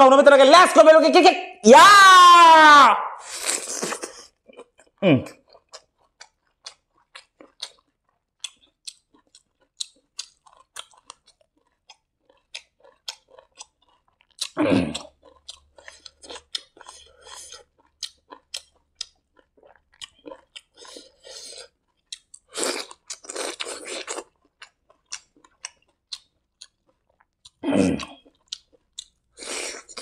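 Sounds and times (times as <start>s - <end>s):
person chewing with wet mouth clicks: 3.4s - 30.0s.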